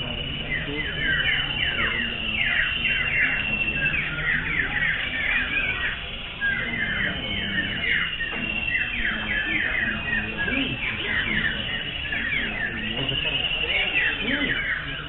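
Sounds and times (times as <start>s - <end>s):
birds singing whistled notes: 0.0s - 15.0s.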